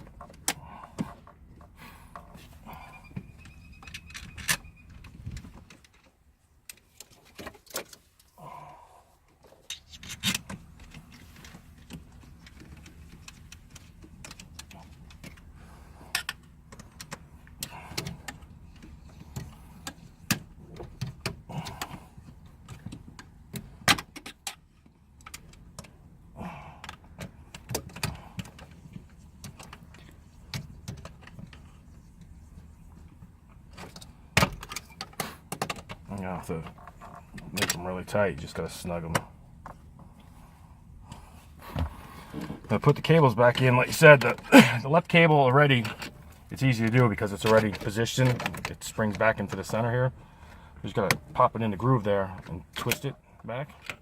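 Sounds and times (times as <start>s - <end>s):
steady low hum: 8.0s - 54.0s.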